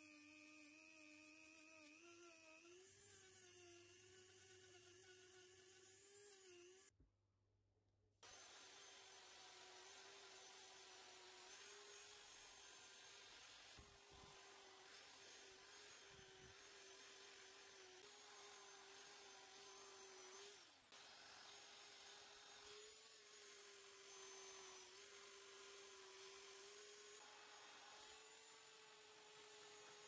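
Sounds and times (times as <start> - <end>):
power tool whine: 0.0 - 6.9, 8.2 - 30.0.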